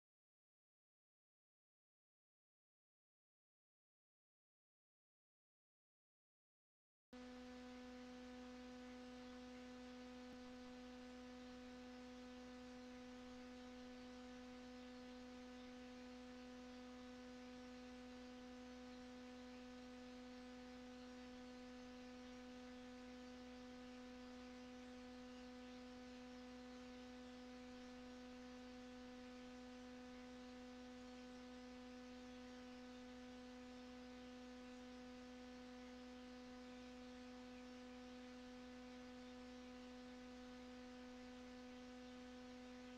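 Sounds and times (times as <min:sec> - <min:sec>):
faint steady hum: 0:07.2 - 0:42.9.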